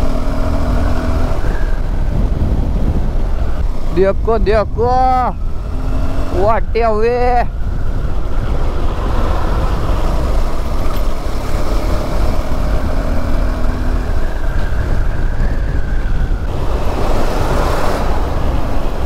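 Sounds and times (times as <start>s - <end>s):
motorcycle engine: 0.0s - 19.0s
wind buffeting microphone: 0.0s - 19.0s.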